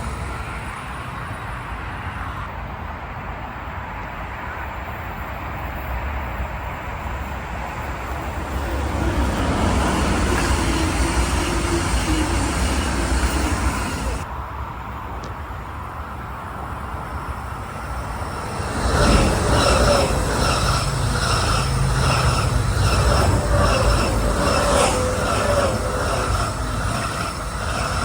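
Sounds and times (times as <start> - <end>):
train passing: 0.0 - 15.0, 15.6 - 28.0.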